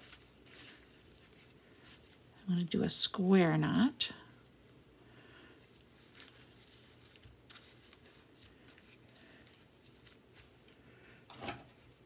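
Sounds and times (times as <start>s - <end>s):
yarn rustling: 0.0s - 3.8s, 5.0s - 12.0s.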